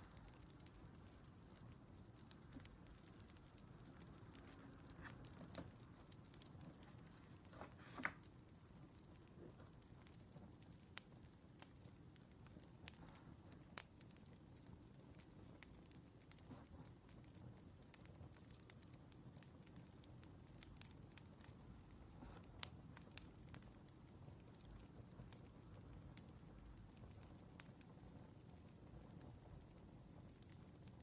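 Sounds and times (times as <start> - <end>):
fire pops and snaps: 0.0 - 31.0
wood fire crackling: 0.0 - 31.0.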